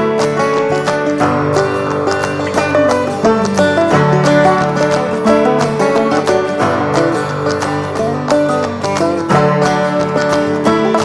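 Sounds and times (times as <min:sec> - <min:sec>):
country acoustic guitar picking: 0:00.0 - 0:11.0.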